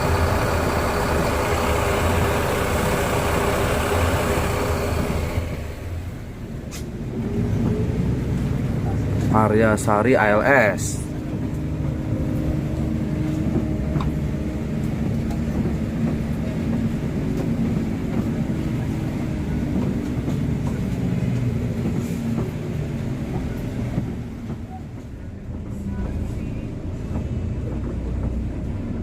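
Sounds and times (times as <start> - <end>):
diesel engine rumbling: 0.0 - 29.0.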